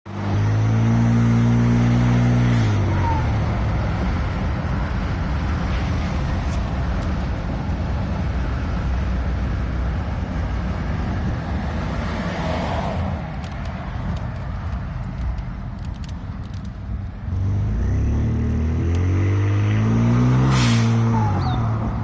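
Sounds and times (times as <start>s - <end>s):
truck engine revving and idling: 0.1s - 12.4s, 14.8s - 22.0s.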